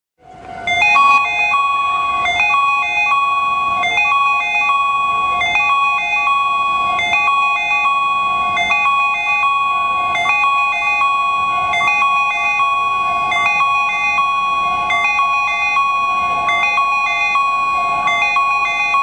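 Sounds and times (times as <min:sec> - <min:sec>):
electronic platform chime jingle: 0:00.5 - 0:19.0.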